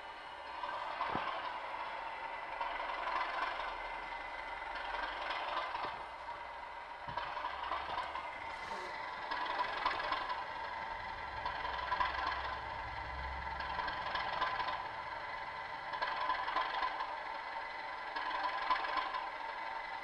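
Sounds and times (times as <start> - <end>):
diesel engine sound from small speaker: 0.0 - 20.0
model train wheels clicking: 0.0 - 20.0.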